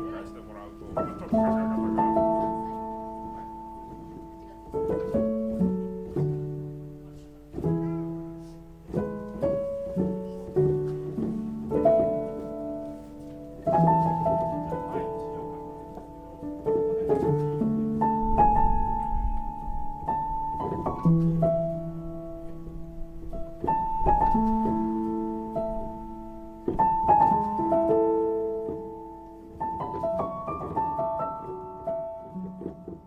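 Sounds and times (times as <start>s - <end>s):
slow solo piano: 0.0s - 33.0s.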